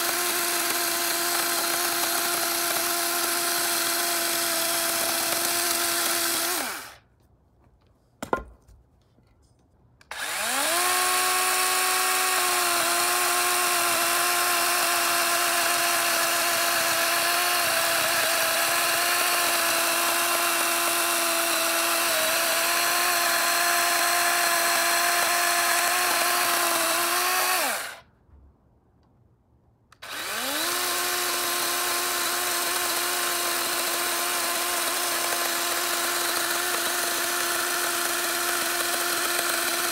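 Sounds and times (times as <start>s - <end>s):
electric chainsaw cutting log: 0.0s - 7.0s, 10.0s - 28.0s, 30.0s - 39.9s.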